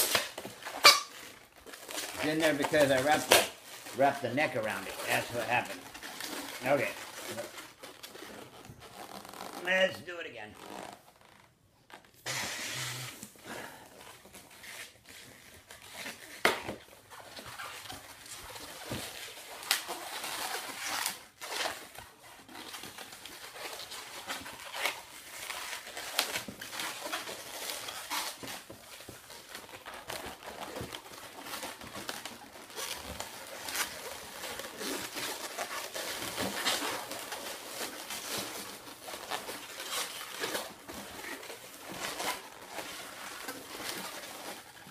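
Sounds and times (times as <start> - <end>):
rubber balloon squeaking and rubbing: 0.0 - 9.9, 10.5 - 44.9.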